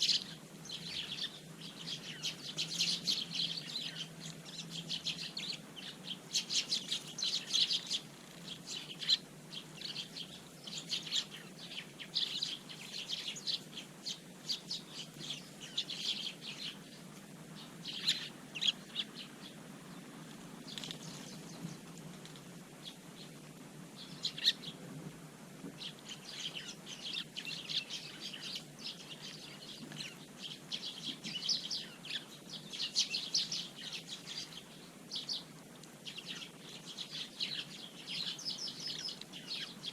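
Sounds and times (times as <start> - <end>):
sparrows chirping: 0.0 - 24.9, 25.7 - 39.9.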